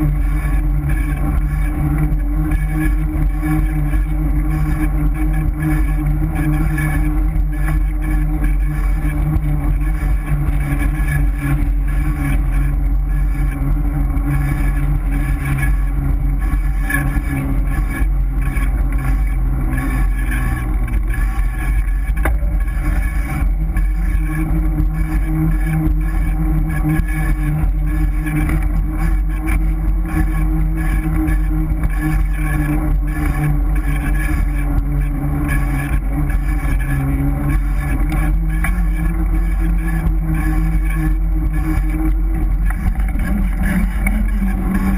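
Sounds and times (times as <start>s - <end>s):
bike riding rumble: 0.0s - 44.9s.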